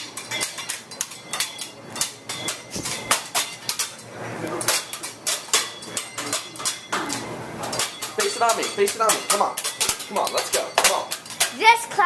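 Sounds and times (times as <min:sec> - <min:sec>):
pan and utensils clattering: 0:00.0 - 0:12.0.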